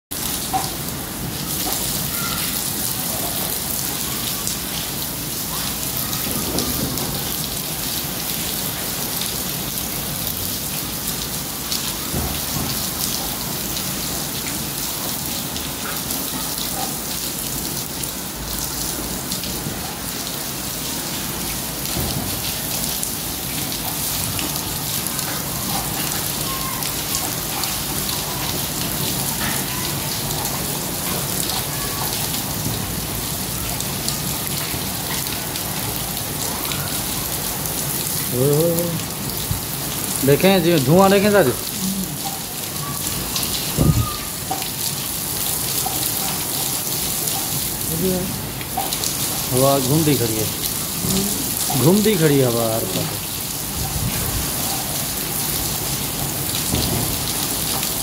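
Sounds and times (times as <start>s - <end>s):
heavy rain on concrete roof: 0.1s - 58.0s.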